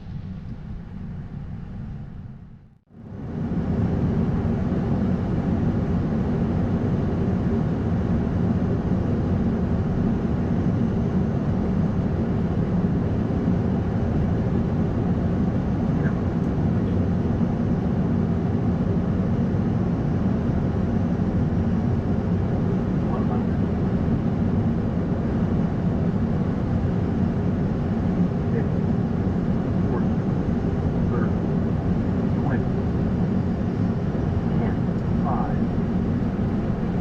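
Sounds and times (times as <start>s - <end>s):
aircraft engine rush: 0.0s - 37.0s.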